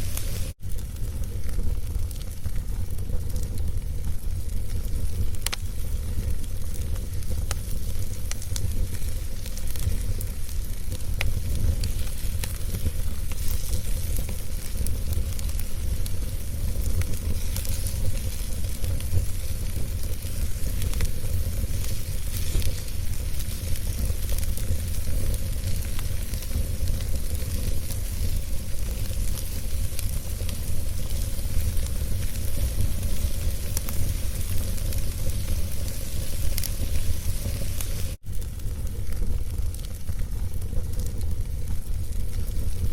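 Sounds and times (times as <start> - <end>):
fire burning with low rumble: 0.0 - 42.9
fire crackling and popping: 0.0 - 42.9.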